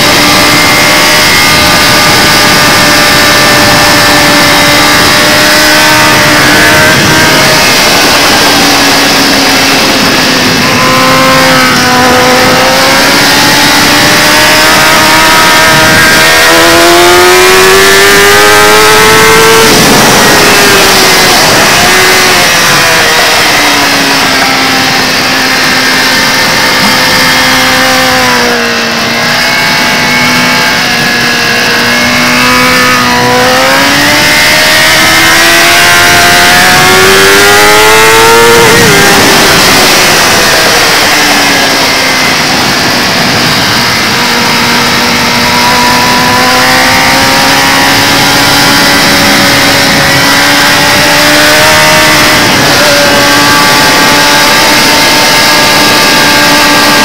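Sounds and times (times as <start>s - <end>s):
motorcycle engine revving: 0.0s - 57.0s
wind rushing: 0.0s - 57.0s.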